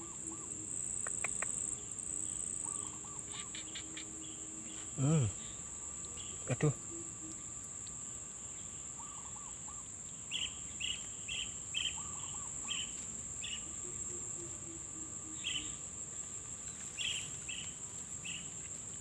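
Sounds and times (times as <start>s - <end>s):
high-pitched insect drone: 0.0s - 18.6s.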